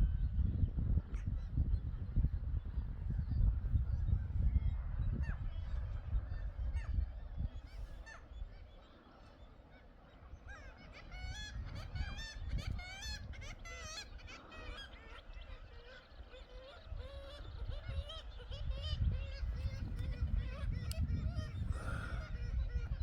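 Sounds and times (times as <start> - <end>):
wind buffeting microphone: 0.0 - 8.8, 10.3 - 23.0
many birds calling: 0.9 - 23.0.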